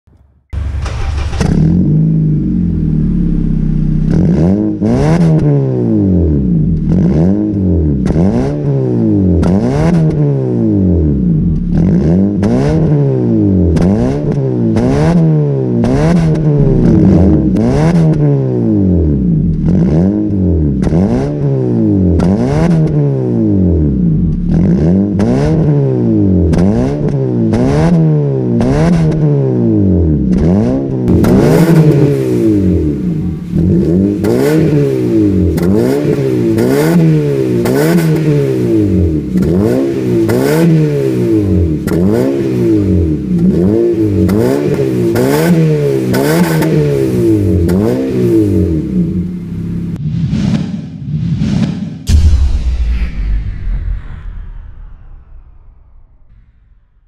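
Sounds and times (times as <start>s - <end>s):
car engine starting: 0.1s - 27.9s, 28.6s - 50.0s
car engine revving: 0.1s - 50.0s.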